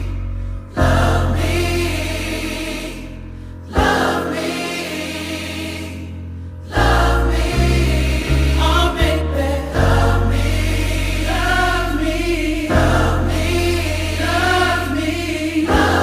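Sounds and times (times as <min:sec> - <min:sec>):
choir-like singing: 0:00.0 - 0:16.0.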